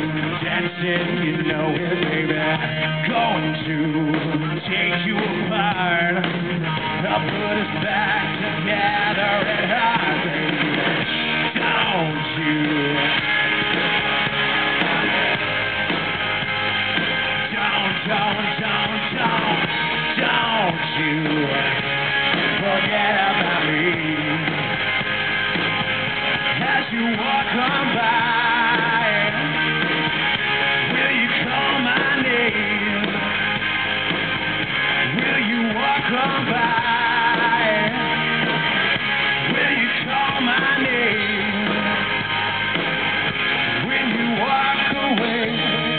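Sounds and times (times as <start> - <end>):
electric guitars: 0.0 - 45.9
live rock band playing: 0.0 - 45.9.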